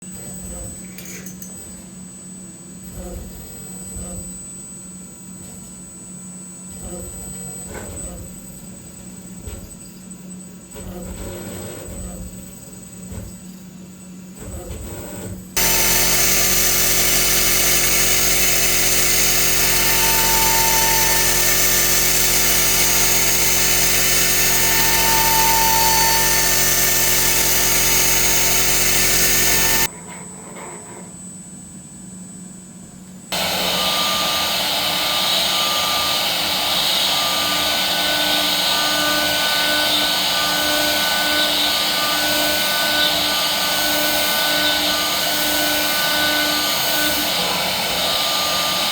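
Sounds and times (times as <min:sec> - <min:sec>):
milling machine spindle whine: 0:05.9 - 0:29.9, 0:33.4 - 0:48.9.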